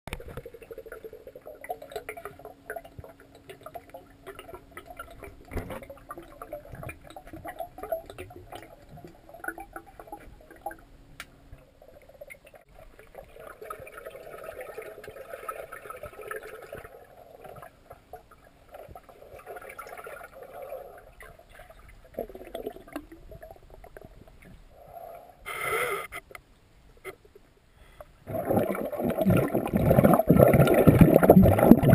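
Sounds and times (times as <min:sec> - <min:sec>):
underwater bubbles gurgling: 0:00.1 - 0:25.2, 0:28.2 - 0:31.9
faint steady hum: 0:00.1 - 0:31.9.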